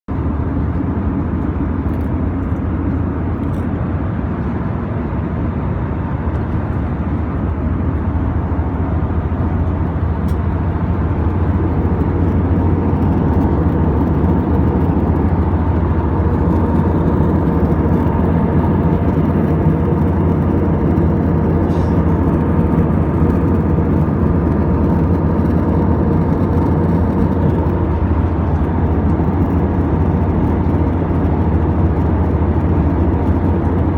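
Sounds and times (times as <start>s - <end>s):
aircraft cabin drone: 0.1s - 33.9s.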